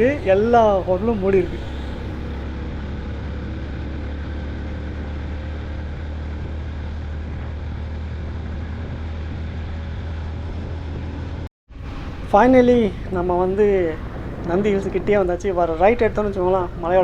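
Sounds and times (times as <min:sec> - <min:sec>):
engine hum: 0:00.0 - 0:17.0
wind and road noise: 0:00.0 - 0:17.0.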